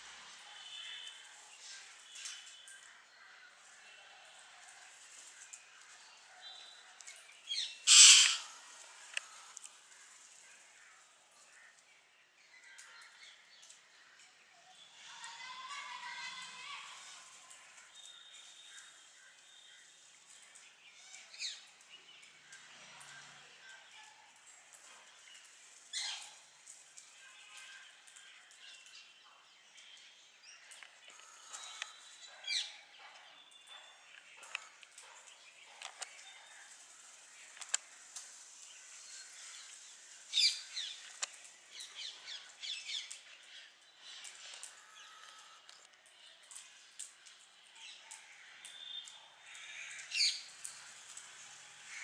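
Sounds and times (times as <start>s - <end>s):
small birds chirping: 0.6s - 52.0s.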